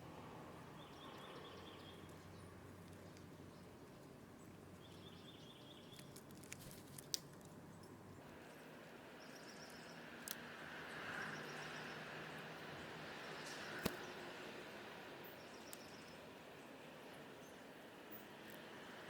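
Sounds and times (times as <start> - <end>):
small birds chirping: 0.7 - 6.6, 7.6 - 18.9.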